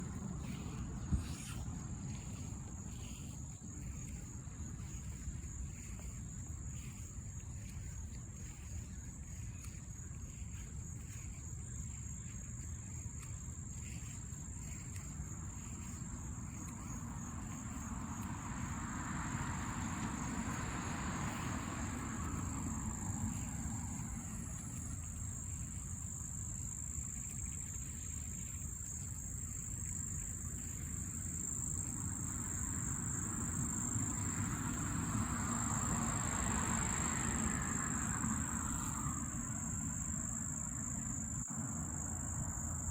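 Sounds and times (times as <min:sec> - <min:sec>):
passing vehicles: 0:00.0 - 0:10.5, 0:13.8 - 0:42.9
high-pitched insect drone: 0:00.0 - 0:42.9.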